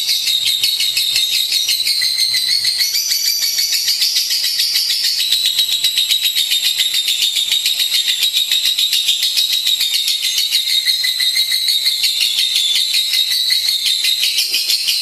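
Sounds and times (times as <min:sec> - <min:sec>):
lovebird chattering trill: 0:00.0 - 0:15.0.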